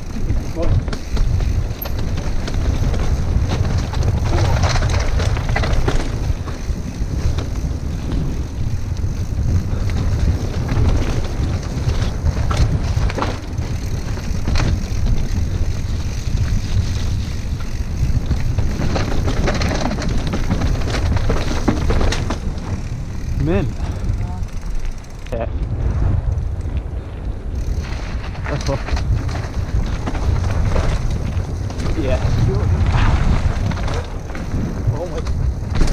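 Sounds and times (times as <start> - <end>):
bike knocking and rattling: 0.0 - 35.9
wind rumble on microphone: 0.0 - 35.9.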